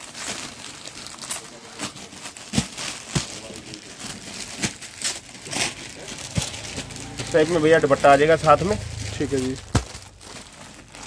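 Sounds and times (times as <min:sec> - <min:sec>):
packaging and cloth rustling: 0:00.0 - 0:11.0
sharp crackles: 0:00.0 - 0:11.0.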